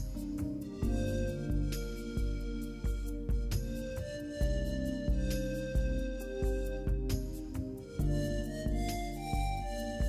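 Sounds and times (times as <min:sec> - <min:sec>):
calm instrumental music with low beat: 0:00.0 - 0:10.0.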